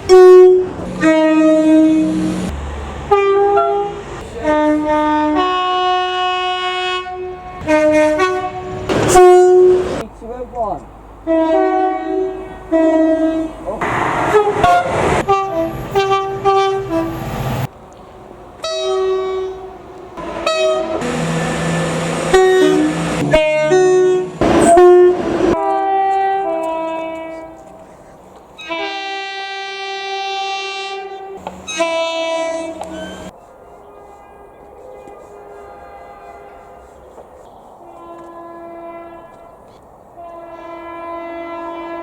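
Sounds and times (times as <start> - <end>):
train horns blasting: 0.0 - 10.0, 11.2 - 17.7, 18.6 - 42.0
moving train rumble: 0.0 - 42.0.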